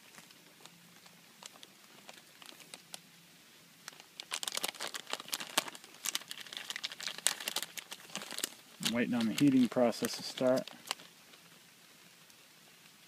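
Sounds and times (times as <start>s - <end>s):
plastic sleeve crinkling: 0.0s - 3.1s, 3.8s - 12.4s.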